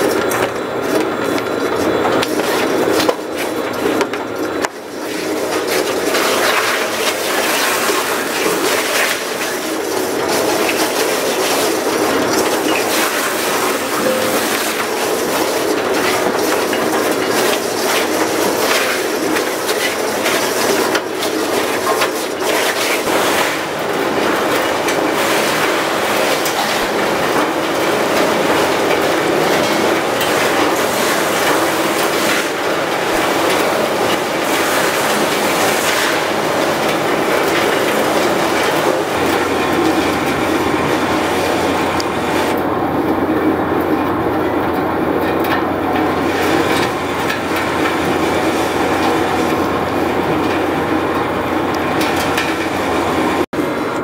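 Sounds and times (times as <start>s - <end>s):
machinery rattling clatter: 0.0s - 54.0s.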